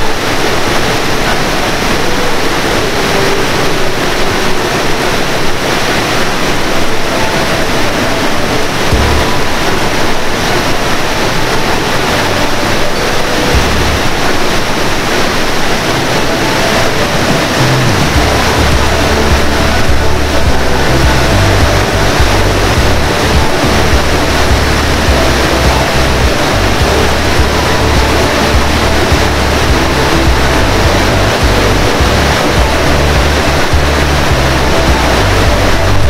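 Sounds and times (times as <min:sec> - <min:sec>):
background music: 0:00.0 - 0:36.0
river water rushing over weir: 0:00.0 - 0:36.0.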